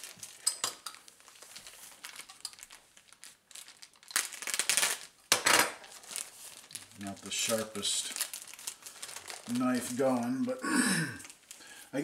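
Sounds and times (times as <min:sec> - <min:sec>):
plastic ripping: 0:00.0 - 0:11.8
plastic bag crinkling: 0:00.0 - 0:12.0.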